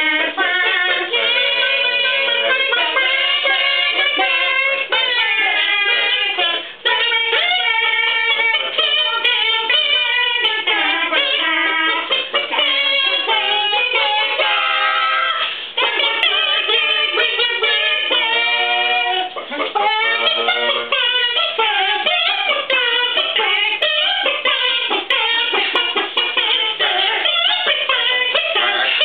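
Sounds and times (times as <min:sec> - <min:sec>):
group singing a cappella doo-wop: 0:00.0 - 0:29.0.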